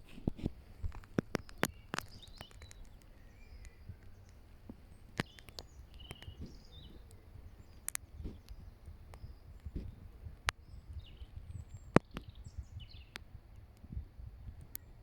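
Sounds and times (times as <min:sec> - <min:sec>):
sharp clicks: 0:00.0 - 0:13.9
faint bird chirps: 0:00.0 - 0:15.0.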